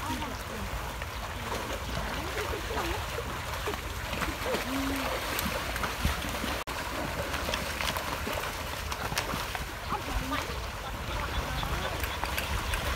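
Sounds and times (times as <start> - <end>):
water sloshing and splashing: 0.0 - 12.9.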